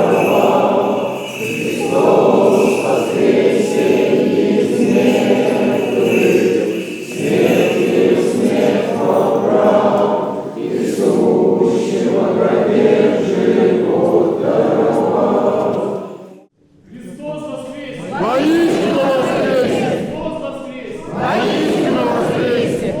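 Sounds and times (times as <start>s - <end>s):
church choir singing chant: 0.0s - 16.6s, 17.6s - 23.0s.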